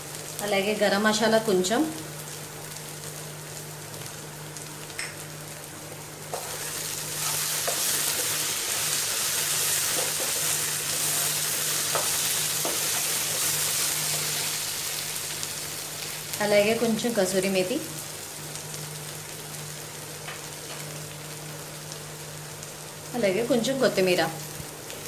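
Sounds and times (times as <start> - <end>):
food sizzling in frying pan: 0.0 - 25.0.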